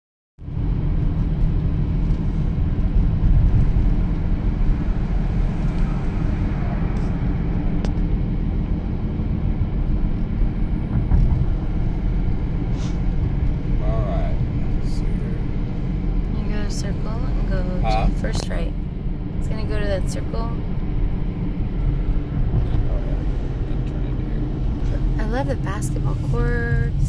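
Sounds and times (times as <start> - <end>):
car driving interior rumble: 0.4 - 27.0.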